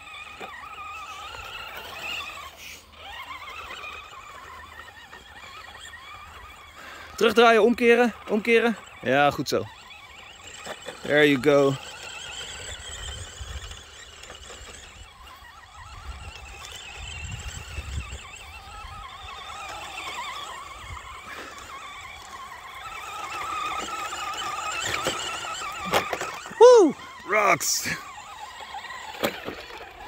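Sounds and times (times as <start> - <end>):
rc truck electric motor whining: 0.0 - 30.0.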